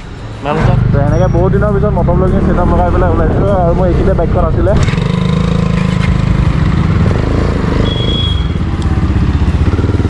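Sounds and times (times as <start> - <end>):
motorcycle engine pulling away: 0.8 - 10.0.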